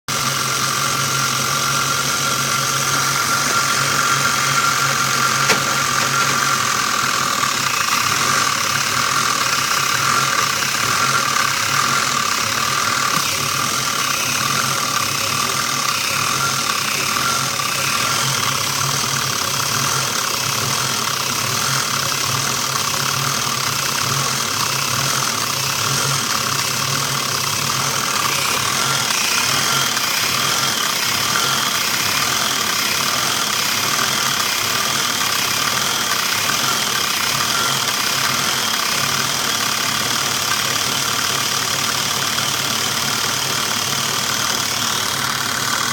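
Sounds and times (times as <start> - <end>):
van engine running: 0.1 - 45.9.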